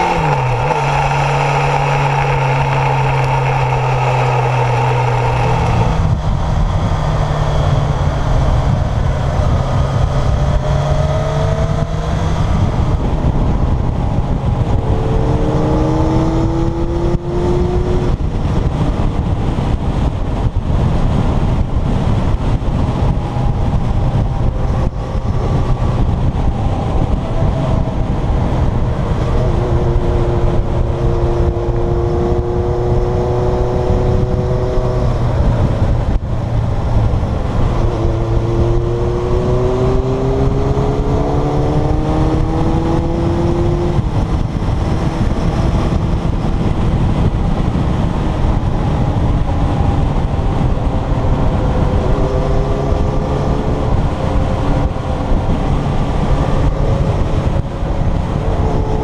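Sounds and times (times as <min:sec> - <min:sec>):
motorcycle engine accelerating: 0:00.0 - 0:59.0
wind rumble on microphone: 0:00.0 - 0:59.0.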